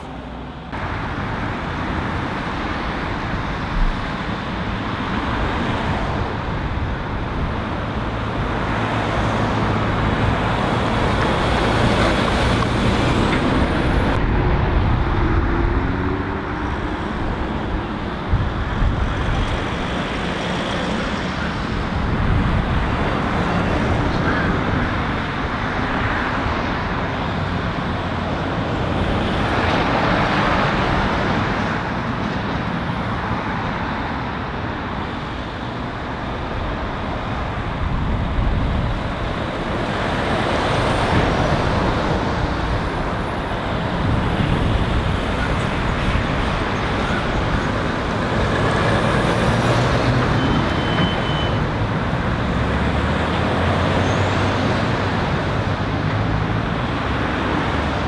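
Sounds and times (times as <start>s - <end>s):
cars driving past: 0.0s - 58.0s
diesel lorry engine rumble: 0.0s - 58.0s.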